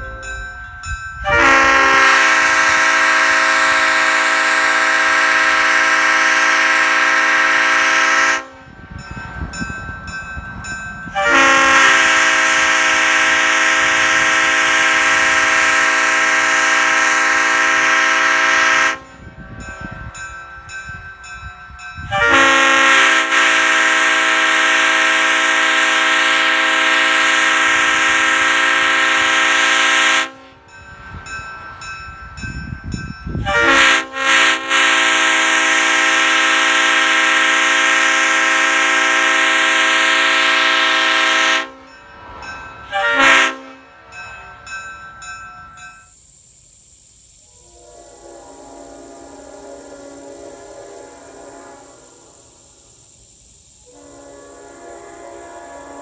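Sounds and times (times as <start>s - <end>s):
five-chime train horn: 0.0s - 46.2s, 47.5s - 52.8s, 53.9s - 56.0s.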